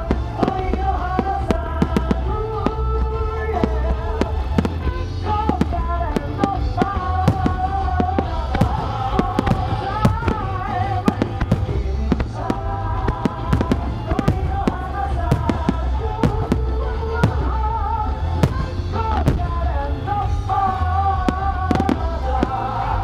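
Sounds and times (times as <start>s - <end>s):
fireworks bursting: 0.0s - 23.0s
music with low bass: 0.0s - 23.0s.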